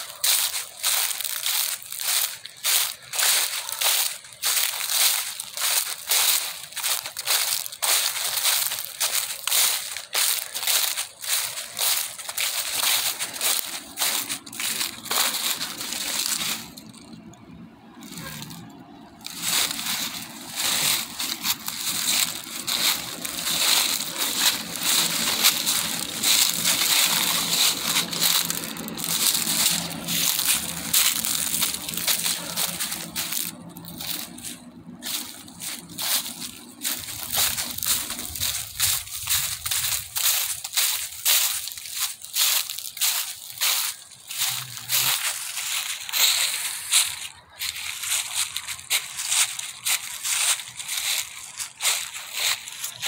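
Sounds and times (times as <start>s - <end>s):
footsteps crunching through snow: 0.0s - 53.0s.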